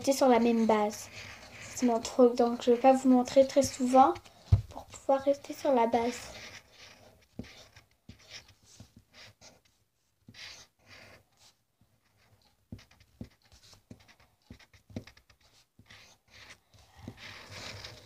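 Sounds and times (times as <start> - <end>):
drawing tool scratching paper: 0.0 - 18.0.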